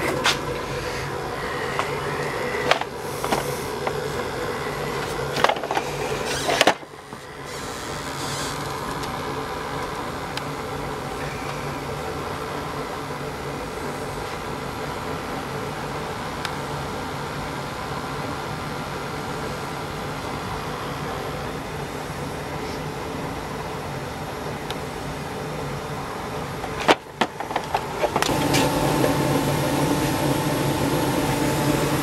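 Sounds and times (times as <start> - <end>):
machine humming: 0.0 - 32.0.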